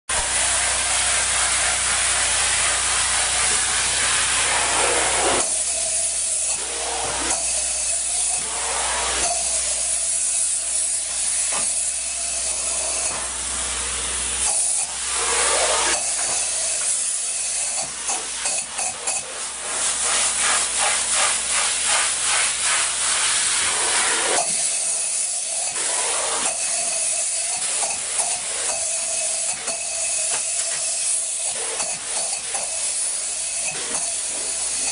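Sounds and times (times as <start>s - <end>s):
spray-foam gun hissing: 0.1s - 34.9s.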